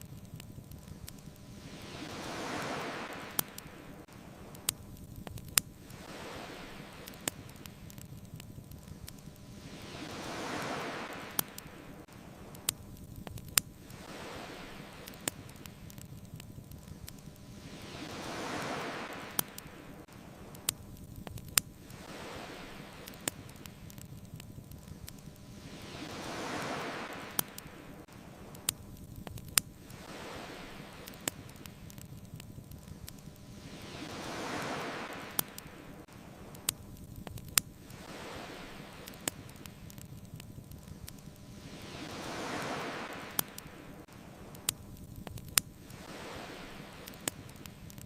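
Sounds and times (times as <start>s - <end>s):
bonfire crackling pops: 0.0s - 48.0s
ocean waves on beach: 0.0s - 48.0s.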